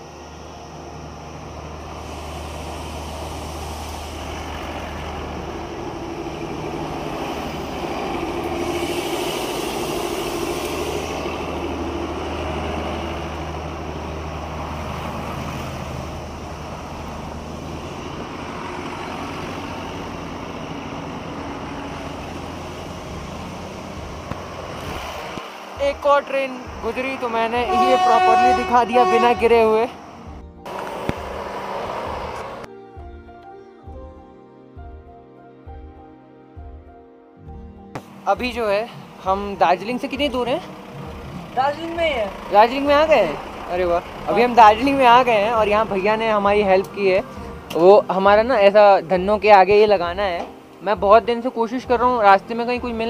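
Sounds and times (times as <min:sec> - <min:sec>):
low engine hum: 0:00.0 - 0:32.7, 0:37.5 - 0:53.0
motor vehicles passing: 0:00.0 - 0:32.7, 0:37.6 - 0:53.0.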